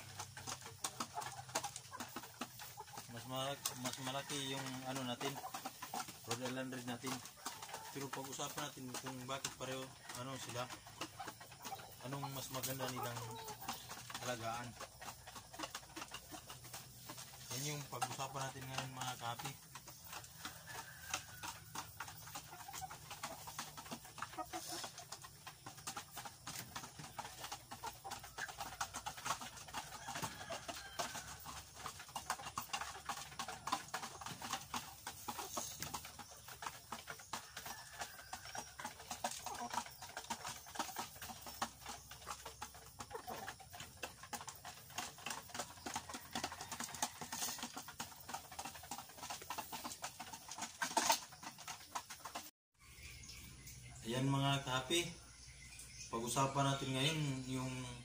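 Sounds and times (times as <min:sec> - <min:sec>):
hens clucking softly: 0:00.0 - 0:58.0
hens pecking and scratching ground: 0:00.0 - 0:58.0.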